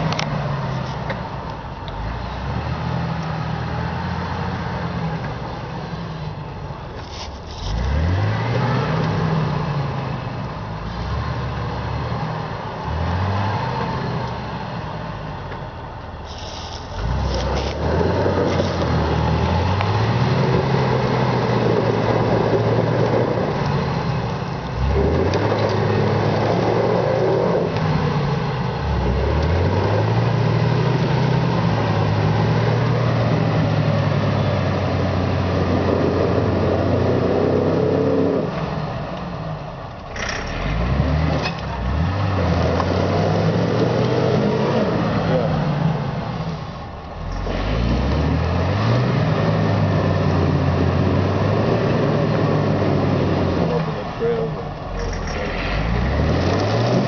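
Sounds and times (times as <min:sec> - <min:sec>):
off-road vehicle engine revving: 0:00.0 - 0:15.6, 0:16.2 - 0:57.0.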